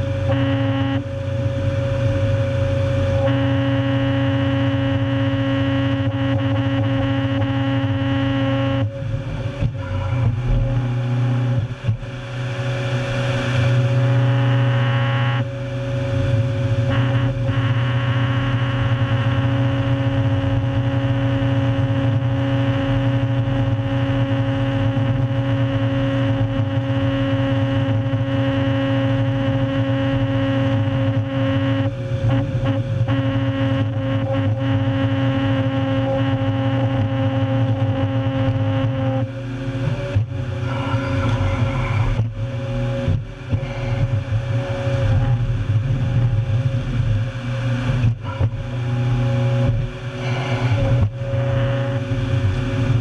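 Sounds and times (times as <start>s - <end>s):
stump grinder engine drone: 0.0s - 53.0s.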